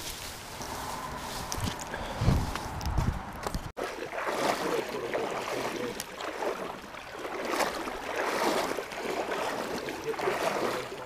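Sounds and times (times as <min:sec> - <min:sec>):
legs wading through water: 0:00.0 - 0:11.0.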